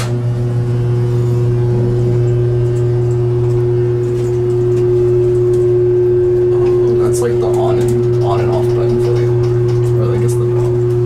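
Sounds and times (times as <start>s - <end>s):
elevator alarm bell ringing: 0.9s - 10.9s.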